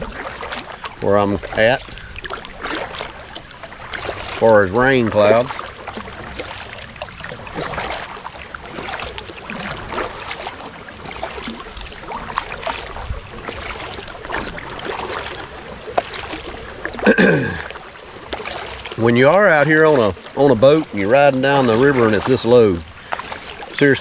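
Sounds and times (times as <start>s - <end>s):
paddle splashing in water: 0.0s - 24.0s.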